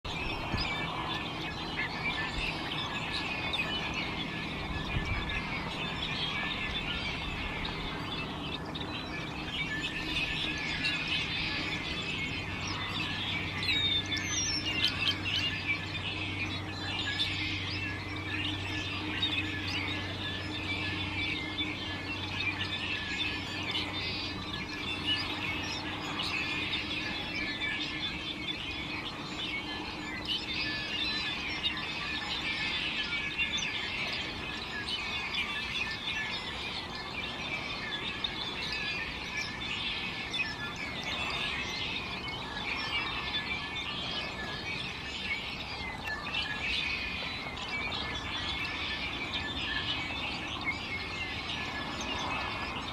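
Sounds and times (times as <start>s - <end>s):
birds chirping and calling: 0.1s - 52.9s.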